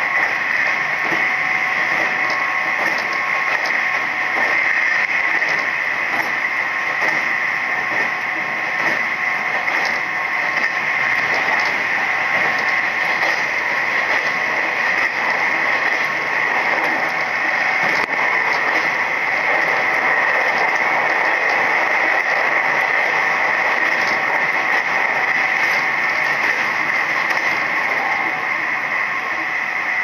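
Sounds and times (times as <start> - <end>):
faint whine: 0.0 - 30.0
wheels rushing on rail: 0.0 - 30.0.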